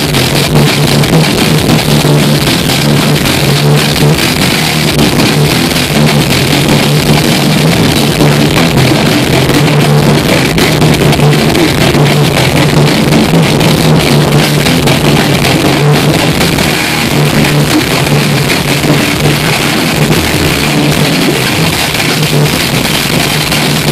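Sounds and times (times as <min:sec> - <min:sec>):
death metal band playing loud: 0:00.0 - 0:23.9.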